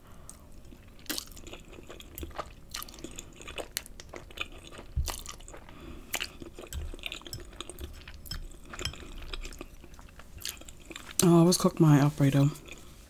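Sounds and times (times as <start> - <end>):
person chewing: 0.2 - 11.2.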